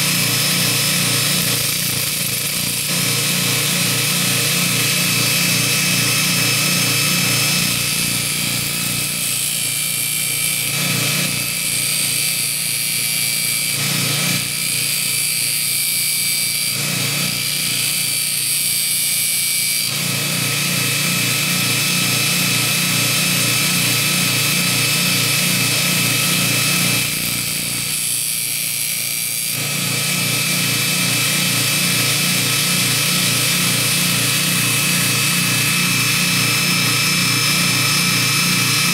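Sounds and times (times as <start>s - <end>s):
belt grinder motor hum: 0.0s - 38.9s.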